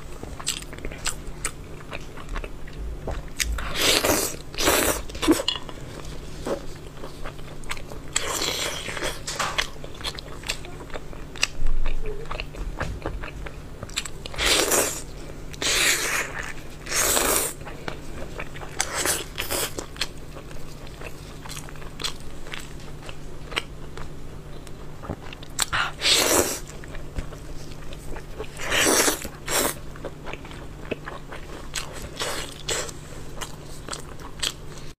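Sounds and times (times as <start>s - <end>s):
faint low hum: 0.0s - 34.9s.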